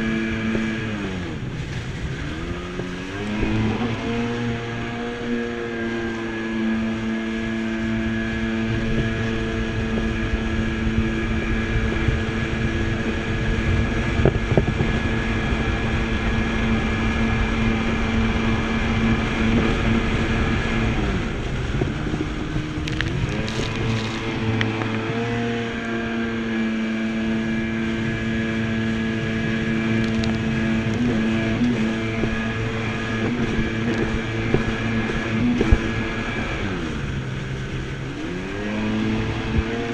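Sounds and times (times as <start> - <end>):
jet ski engine running: 0.0 - 39.9
wind and water spray rushing: 0.0 - 39.9.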